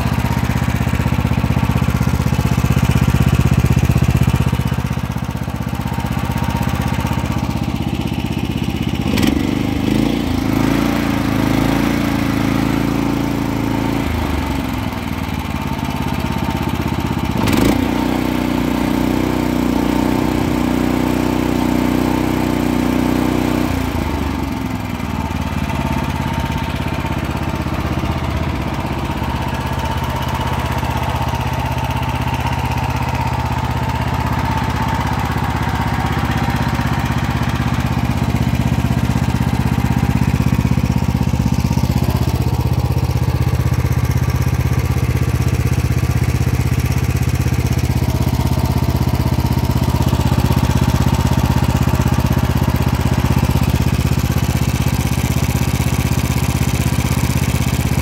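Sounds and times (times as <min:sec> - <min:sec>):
petrol engine running: 0:00.0 - 0:11.6, 0:22.9 - 0:58.0.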